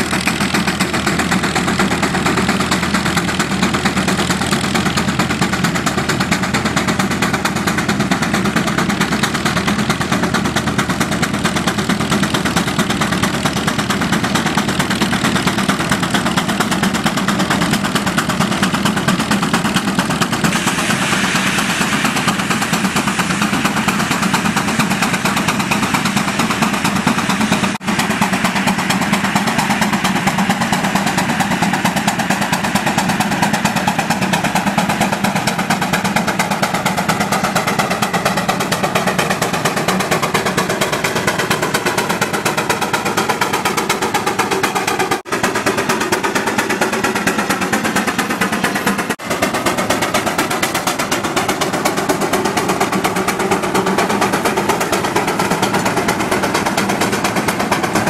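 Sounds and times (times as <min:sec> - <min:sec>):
steam engine exhaust chuffing: 0:00.0 - 0:58.0.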